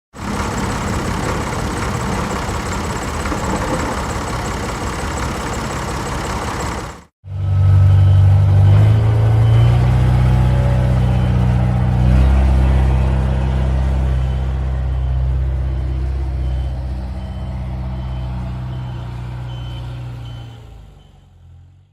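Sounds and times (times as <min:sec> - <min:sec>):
tractor engine running: 0:00.1 - 0:20.4.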